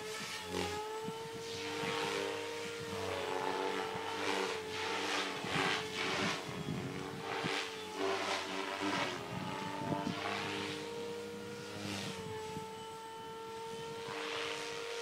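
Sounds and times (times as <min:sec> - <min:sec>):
model helicopter motor whine: 0:00.0 - 0:15.0.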